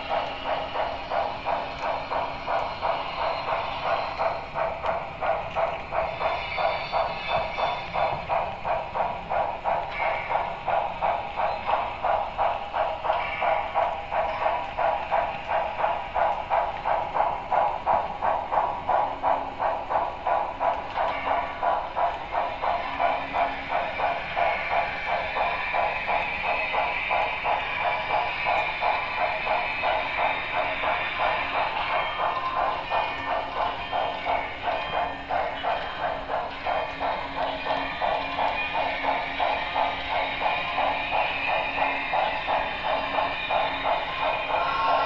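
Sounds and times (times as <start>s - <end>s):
model steam locomotive chuffing: 0.0s - 45.0s
steam hiss: 0.0s - 45.0s.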